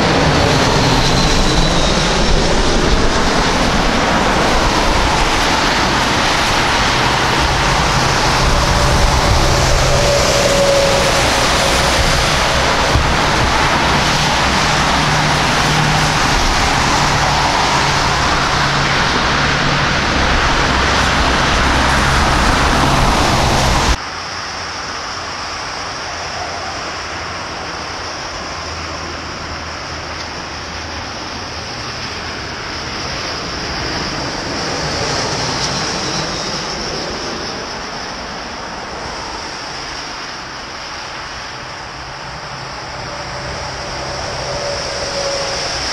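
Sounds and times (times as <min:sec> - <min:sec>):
wind on microphone: 0:00.0 - 0:24.0, 0:26.1 - 0:45.9
distant airliner engines: 0:00.0 - 0:45.9
jet engines rushing: 0:00.0 - 0:45.9
traffic on wet road: 0:00.0 - 0:45.9.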